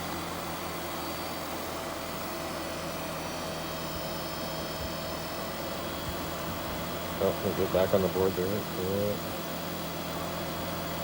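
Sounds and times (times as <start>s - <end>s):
treadmill motor whirring: 0.0s - 11.0s.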